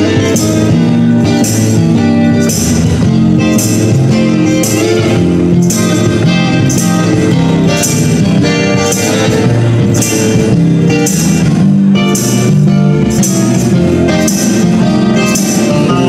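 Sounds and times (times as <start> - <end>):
electric guitar: 0.0 - 16.0
low bass notes: 0.0 - 16.0
tambourine jingling: 0.0 - 16.0.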